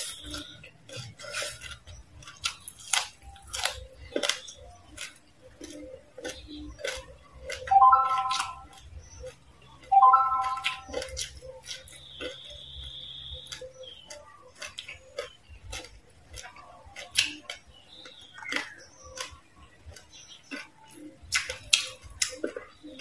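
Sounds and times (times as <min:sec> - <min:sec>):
chewing crispy food: 0:00.0 - 0:23.0.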